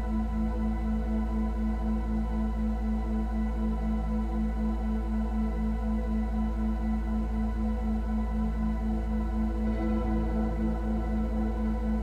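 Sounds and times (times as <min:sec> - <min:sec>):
ambient music with low drone: 0:00.0 - 0:12.0.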